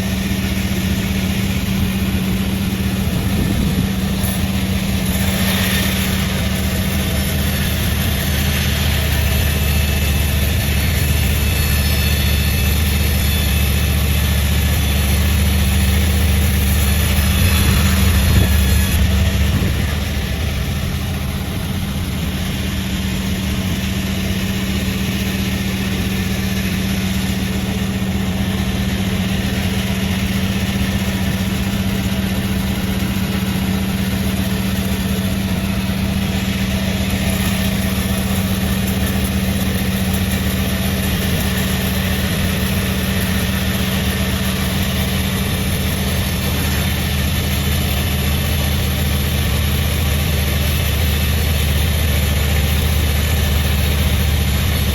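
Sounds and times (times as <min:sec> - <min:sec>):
sawmill machinery humming: 0:00.0 - 0:54.9.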